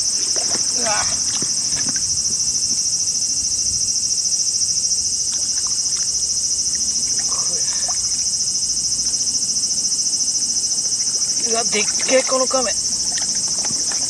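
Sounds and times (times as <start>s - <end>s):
insect chorus buzzing: 0.0s - 14.0s.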